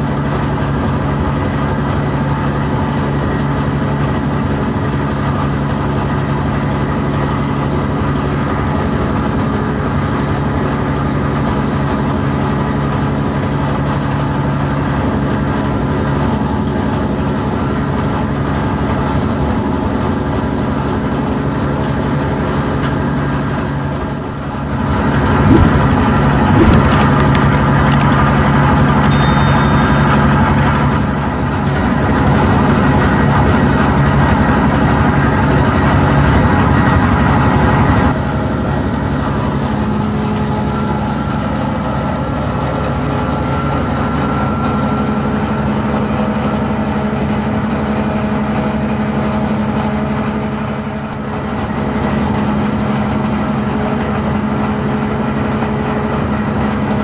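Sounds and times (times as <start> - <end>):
heavy machinery humming: 0.0 - 57.0.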